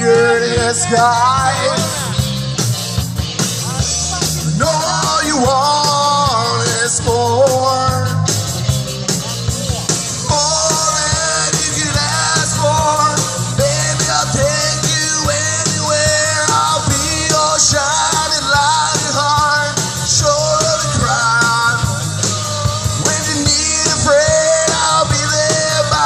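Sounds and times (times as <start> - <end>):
bending lead guitar melody: 0.0 - 26.0
live rock band playing: 0.0 - 26.0.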